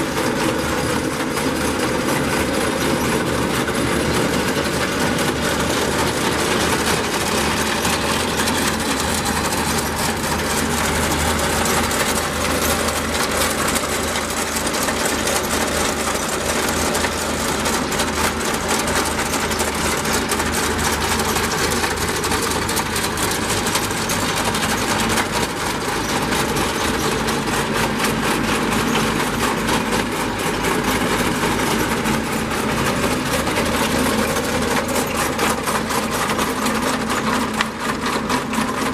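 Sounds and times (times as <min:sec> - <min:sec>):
fast mechanical clatter: 0:00.0 - 0:38.9
tractor engine running: 0:00.0 - 0:38.9.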